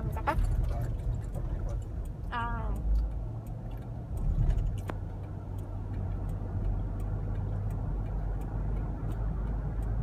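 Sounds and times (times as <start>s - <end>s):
engine and road rumble: 0.0s - 10.0s
faint light ticks: 0.3s - 10.0s.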